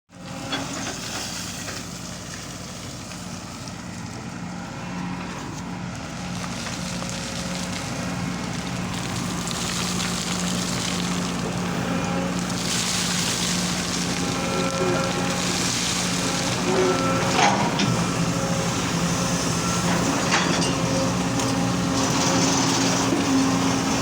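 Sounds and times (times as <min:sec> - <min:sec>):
excavator diesel engine running: 0:00.1 - 0:24.0.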